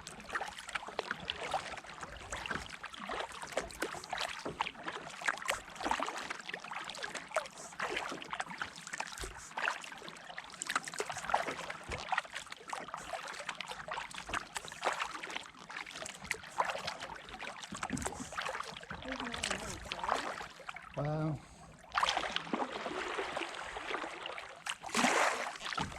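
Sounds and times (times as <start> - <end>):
paddle splashing water: 0.0 - 25.9.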